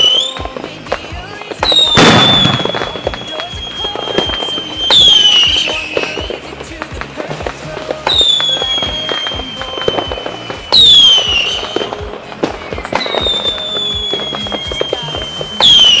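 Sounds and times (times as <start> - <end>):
fireworks crackling pops: 0.0 - 16.0
fireworks falling whistles: 0.0 - 16.0.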